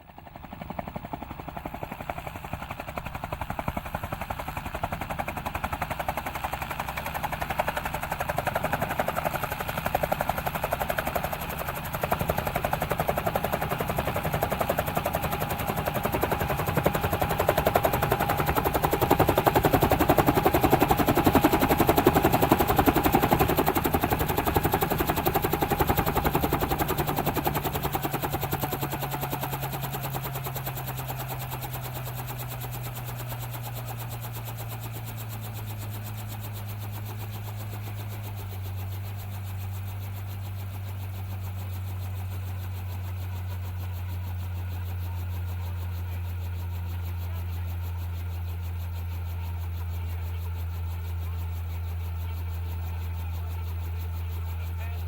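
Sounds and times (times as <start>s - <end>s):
helicopter rotor chop: 0.0s - 55.0s.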